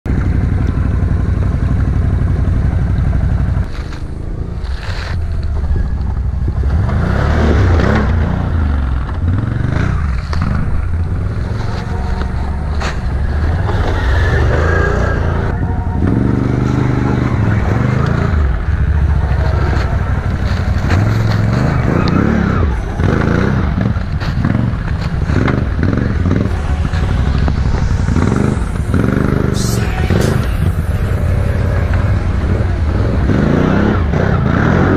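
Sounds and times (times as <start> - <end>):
quad engine revving: 0.1 - 34.9.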